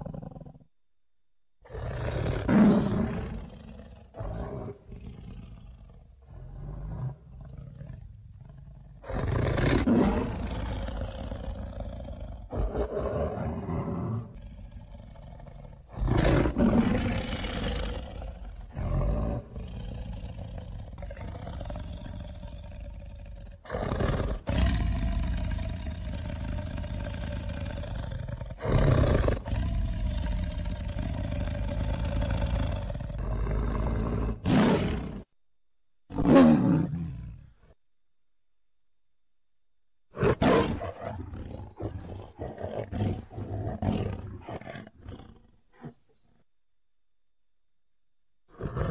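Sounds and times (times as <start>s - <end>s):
big cat roars and growls: 0.0s - 0.6s, 1.6s - 35.3s, 36.1s - 37.8s, 40.1s - 46.4s, 48.5s - 48.9s.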